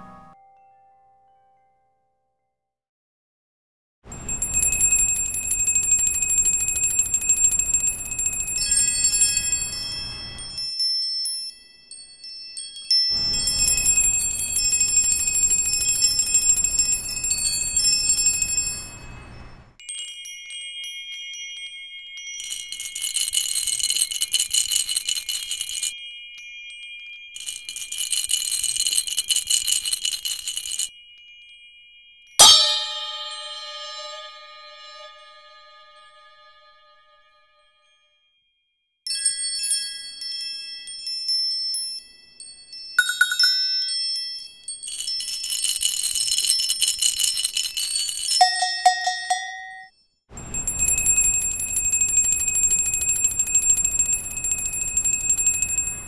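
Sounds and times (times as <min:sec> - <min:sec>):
bell-like chiming: 0:04.1 - 0:29.5, 0:30.6 - 0:38.1, 0:39.1 - 0:56.0.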